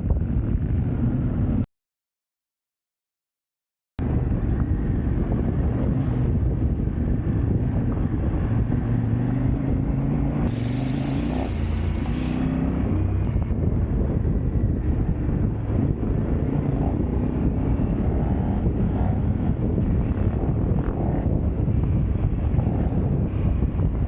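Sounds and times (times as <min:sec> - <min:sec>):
motorcycle engine running: 0:00.0 - 0:01.6, 0:04.0 - 0:24.0.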